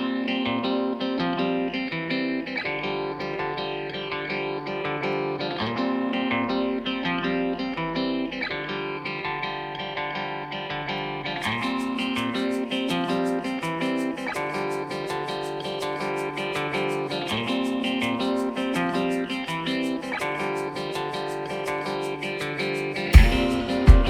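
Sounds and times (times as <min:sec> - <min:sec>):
plucked guitar: 0:00.0 - 0:24.0.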